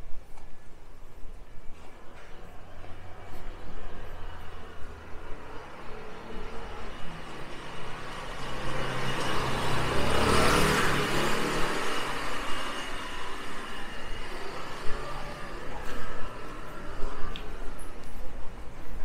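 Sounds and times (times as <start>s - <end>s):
background traffic: 0.0s - 19.0s
vehicle passing: 2.2s - 19.0s.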